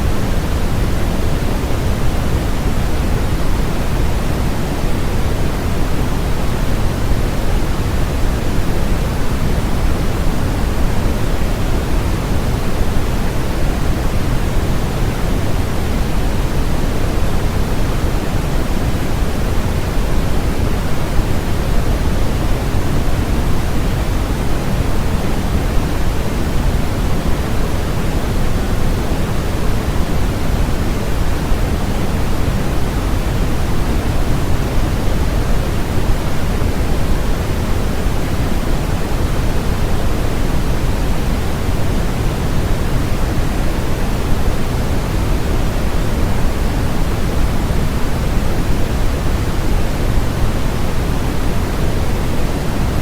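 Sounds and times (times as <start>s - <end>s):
deep white noise: 0.0s - 53.0s.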